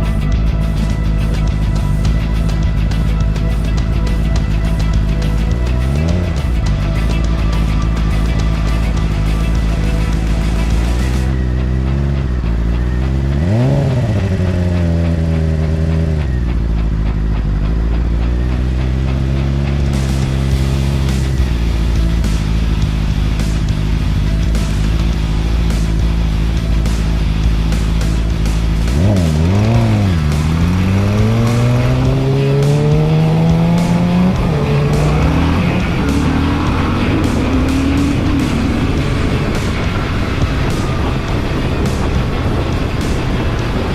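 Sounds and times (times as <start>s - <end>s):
motorcycle engine revving: 0.0s - 43.9s
music with steady beat: 0.0s - 43.9s.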